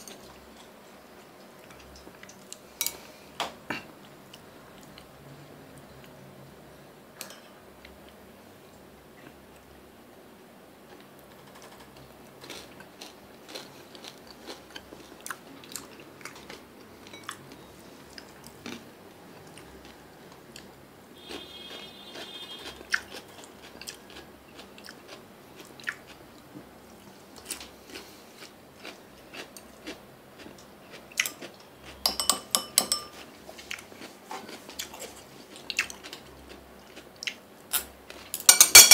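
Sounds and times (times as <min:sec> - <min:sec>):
chewing and crunching food: 0:00.1 - 0:03.1, 0:03.7 - 0:05.4, 0:10.8 - 0:32.1, 0:33.1 - 0:38.4.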